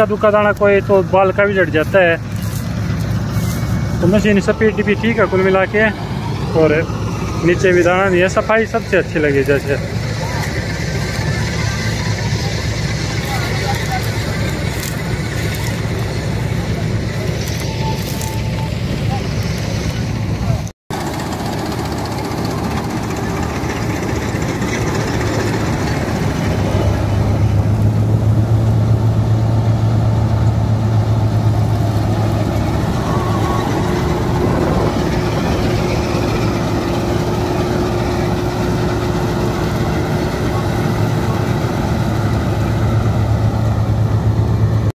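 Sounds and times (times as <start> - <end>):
combine harvester engine drone: 0.0 - 44.9
deep hum: 0.0 - 44.9
high machinery whine: 0.0 - 44.9.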